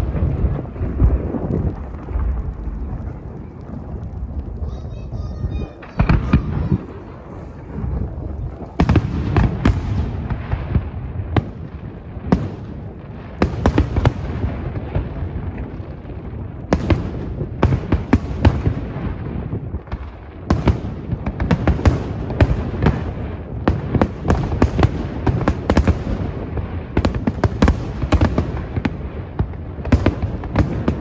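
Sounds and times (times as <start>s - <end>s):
continuous low rumble: 0.0s - 31.0s
fireworks bangs: 0.0s - 31.0s.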